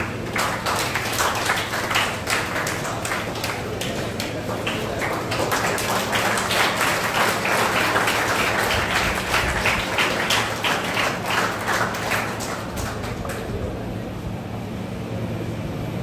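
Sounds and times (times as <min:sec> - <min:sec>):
audience applause: 0:00.0 - 0:13.8.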